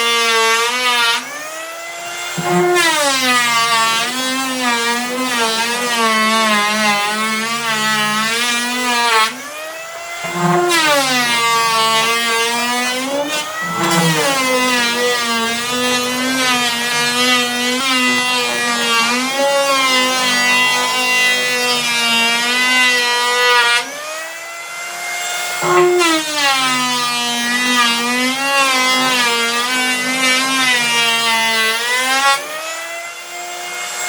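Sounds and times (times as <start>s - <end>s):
power tool motor whining: 0.0s - 34.0s.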